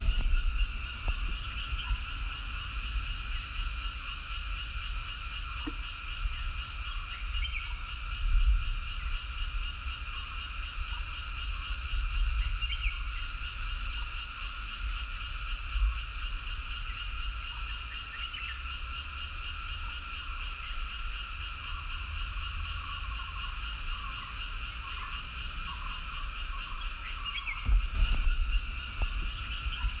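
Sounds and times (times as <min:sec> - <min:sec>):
chorus of frogs calling: 0:00.0 - 0:30.0.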